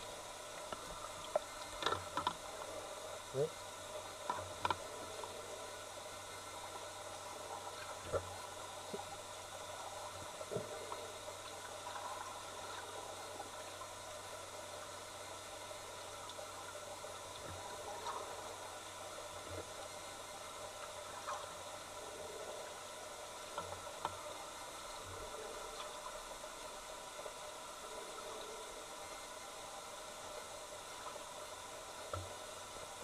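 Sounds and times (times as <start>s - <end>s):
muffled underwater hiss: 0.0s - 33.0s.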